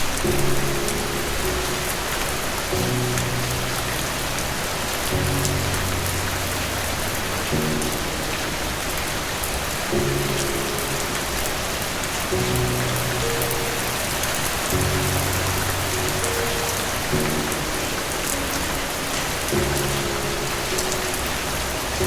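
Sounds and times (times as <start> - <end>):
soft low music notes: 0.0 - 22.0
steady rain falling: 0.0 - 22.0.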